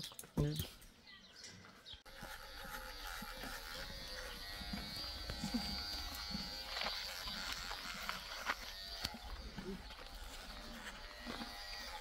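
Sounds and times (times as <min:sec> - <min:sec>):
electric clippers buzzing: 0:02.1 - 0:12.0.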